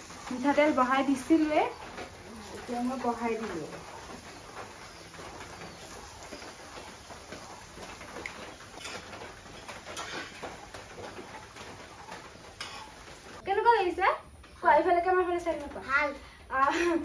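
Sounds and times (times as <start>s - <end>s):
fritters sizzling in oil: 0.0s - 15.7s.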